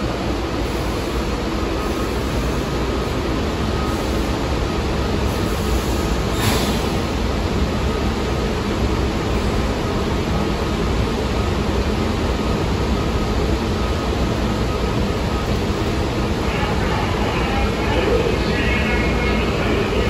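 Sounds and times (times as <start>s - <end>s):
subway train equipment humming: 0.0s - 20.0s.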